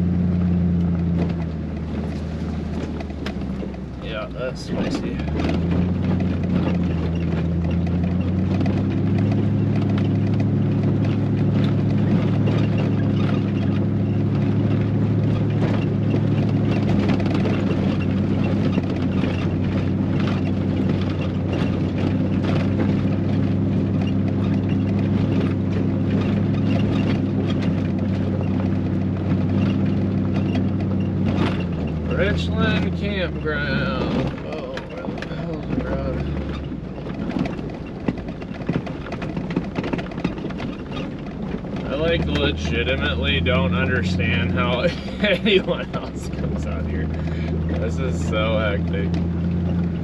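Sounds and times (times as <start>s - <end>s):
knocks and rattles: 0.0s - 50.0s
truck engine droning: 0.0s - 50.0s.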